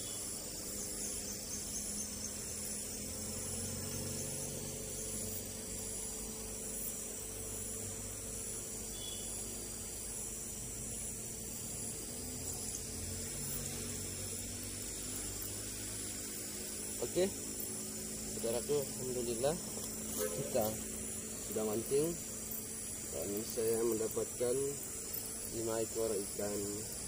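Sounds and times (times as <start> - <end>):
crickets trilling: 0.0 - 27.0
low steady hum: 0.0 - 27.0.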